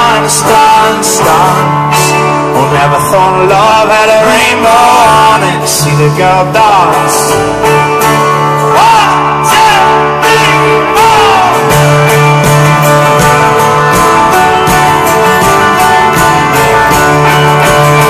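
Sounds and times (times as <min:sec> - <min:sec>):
bass line: 0:00.0 - 0:18.0
strummed acoustic guitar: 0:00.0 - 0:18.0.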